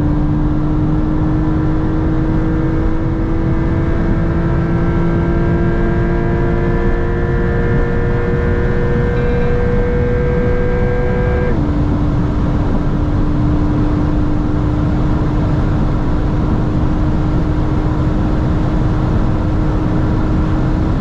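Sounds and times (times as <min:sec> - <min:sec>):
car engine pulling hard: 0:00.0 - 0:21.0
wind and road noise: 0:00.0 - 0:21.0.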